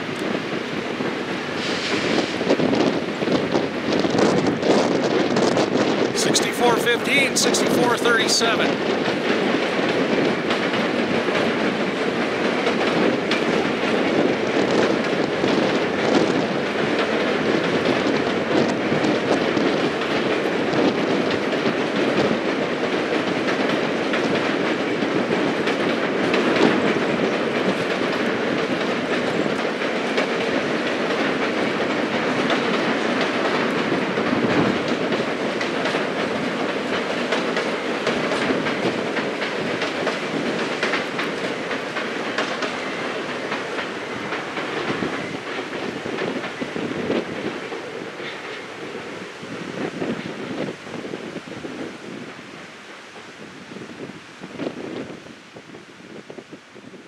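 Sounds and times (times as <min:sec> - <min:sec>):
clicks of train wheels: 0:00.0 - 0:53.4
train wheels rumbling on rails: 0:00.0 - 0:57.0.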